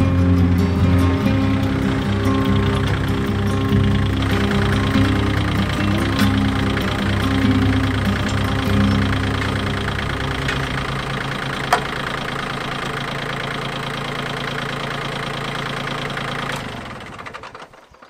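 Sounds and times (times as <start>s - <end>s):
engine running down: 0.0s - 18.0s
tractor engine idling: 0.0s - 18.0s.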